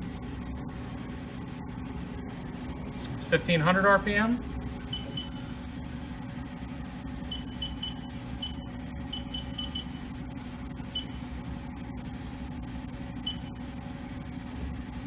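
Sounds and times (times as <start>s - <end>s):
machine spindle humming: 0.0s - 15.0s.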